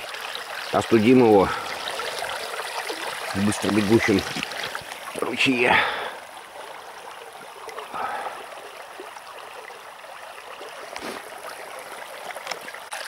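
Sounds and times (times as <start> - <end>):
shallow stream babbling: 0.0 - 13.0.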